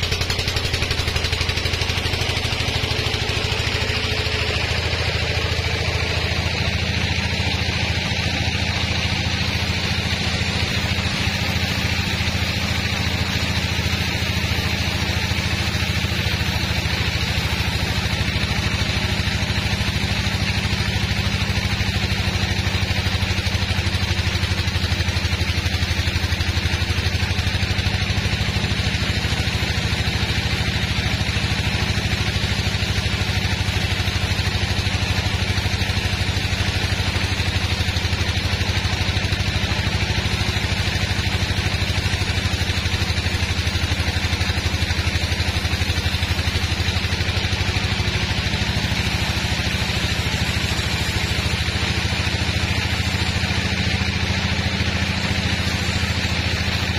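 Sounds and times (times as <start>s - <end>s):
low engine-like hum: 0.0s - 56.9s
sawmill blade cutting log: 0.0s - 56.9s.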